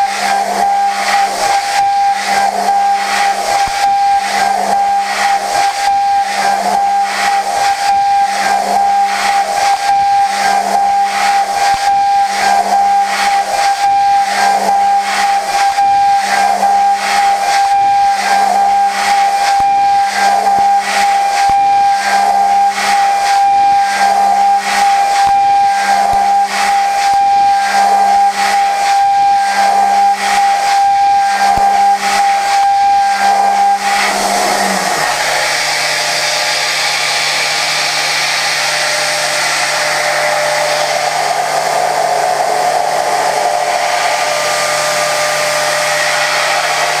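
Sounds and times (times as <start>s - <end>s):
low pulsing machine tone: 0.0s - 47.0s
milling machine cutting whine: 0.0s - 47.0s.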